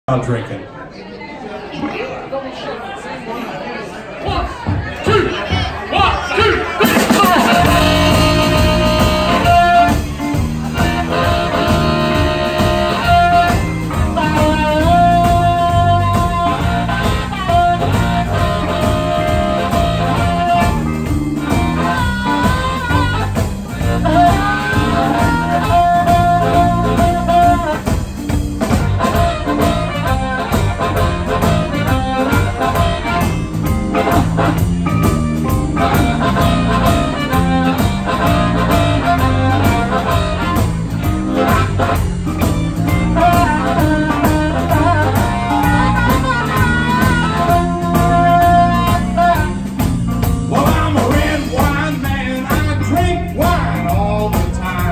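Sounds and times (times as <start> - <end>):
drums keeping a steady beat: 4.3 - 54.9
amplified blues harmonica wailing: 6.8 - 27.9, 28.6 - 54.1
electric guitar: 6.8 - 54.9.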